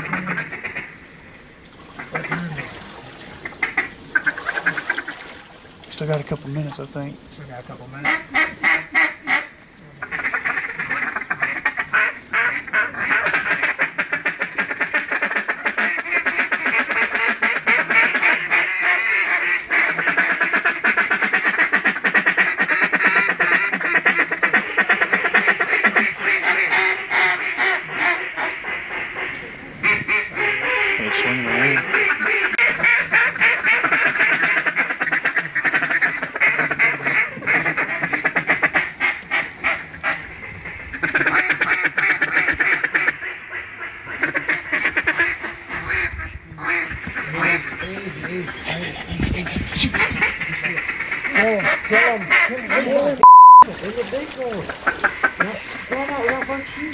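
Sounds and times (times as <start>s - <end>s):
duck calls quacking: 0.0s - 1.0s, 2.0s - 2.8s, 3.4s - 5.4s, 8.0s - 53.2s, 54.6s - 56.9s.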